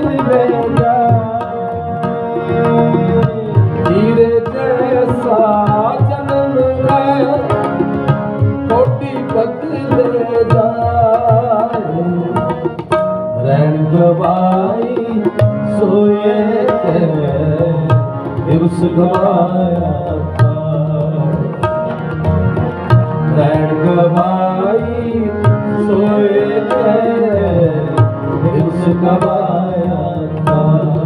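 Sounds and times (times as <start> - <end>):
harmonium melody: 0.0 - 31.0
tabla rhythm: 0.0 - 31.0.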